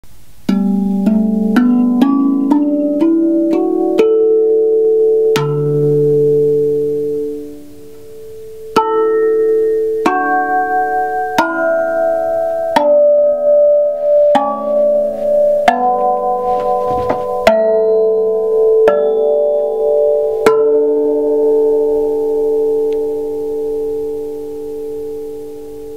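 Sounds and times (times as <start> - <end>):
steel tongue drum ringing notes: 0.4 - 25.9.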